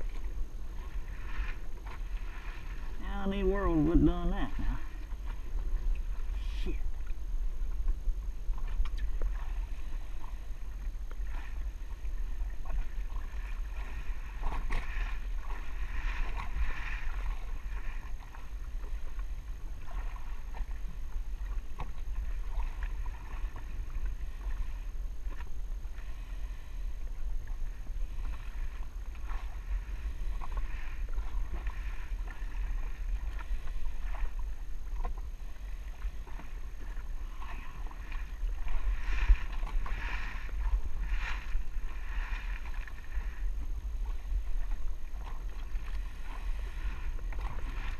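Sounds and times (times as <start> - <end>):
steady low rumble: 0.0 - 47.9
water lapping against hull: 0.0 - 47.9.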